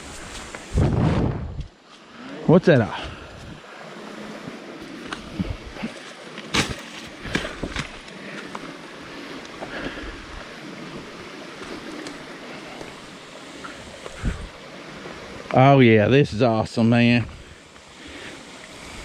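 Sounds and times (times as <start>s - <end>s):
running water rushing: 2.0s - 19.0s.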